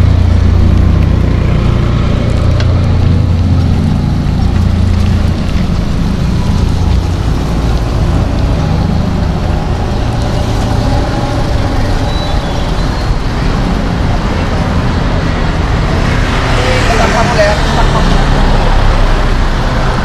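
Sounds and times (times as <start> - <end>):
city road traffic: 0.0 - 20.0
heavy low rumble: 0.0 - 20.0.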